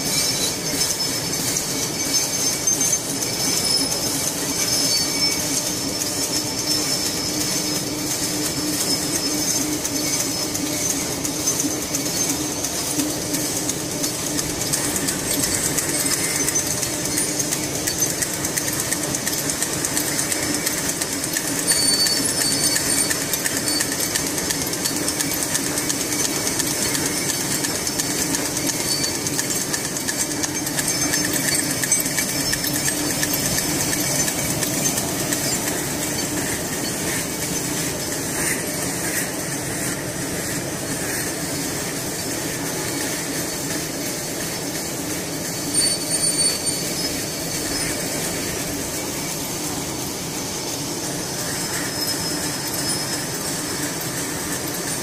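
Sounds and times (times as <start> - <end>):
machine clattering: 0.0 - 55.0.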